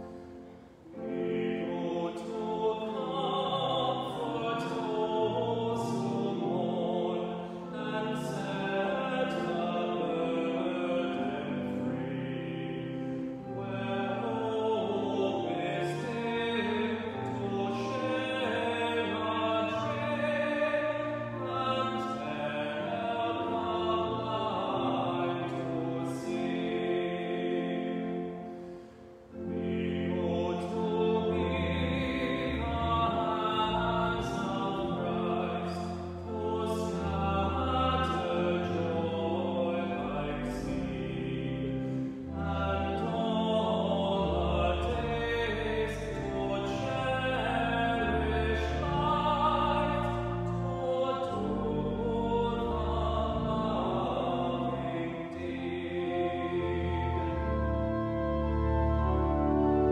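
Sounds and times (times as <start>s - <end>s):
organ chords: 0.0s - 59.9s
man singing a hymn: 0.8s - 59.9s.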